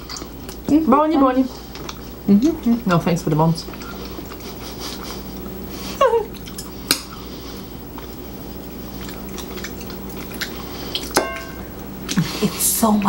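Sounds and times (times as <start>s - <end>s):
people chewing meat off bones: 0.0s - 0.7s, 1.5s - 12.6s.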